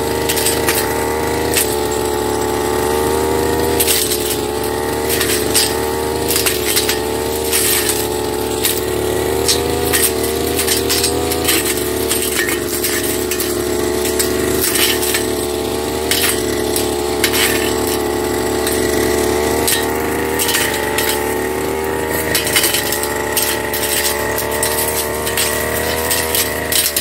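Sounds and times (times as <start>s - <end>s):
blade striking woody stems: 0.0s - 27.0s
brush cutter engine running: 0.0s - 27.0s.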